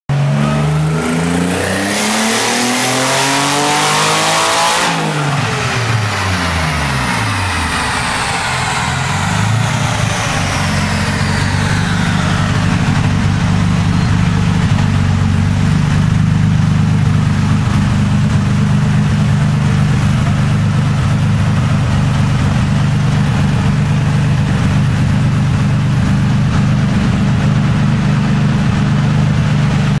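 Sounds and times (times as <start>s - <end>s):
car engine revving on a dyno: 0.1s - 30.0s
high whine of turbos spinning down: 0.1s - 30.0s.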